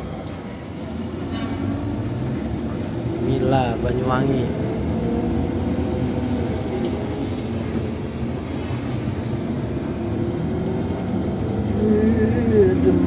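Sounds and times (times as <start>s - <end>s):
bus engine and tyres rumbling: 0.0s - 13.0s.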